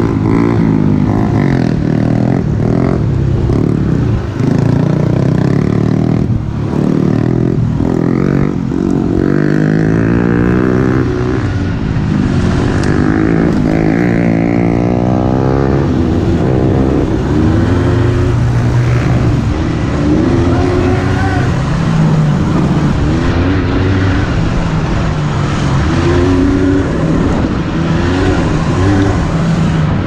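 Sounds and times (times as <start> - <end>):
quad engines revving: 0.0 - 30.0.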